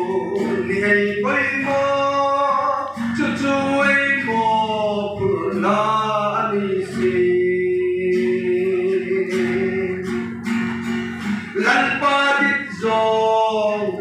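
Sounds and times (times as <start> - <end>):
acoustic guitar strumming: 0.0 - 14.0
man singing: 0.0 - 14.0.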